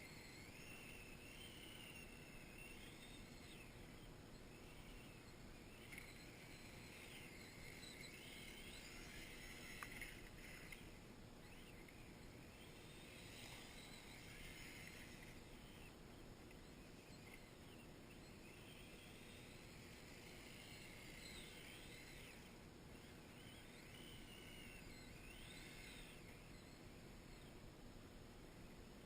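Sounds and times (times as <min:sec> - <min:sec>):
faint electric motor whine: 0:00.0 - 0:29.0.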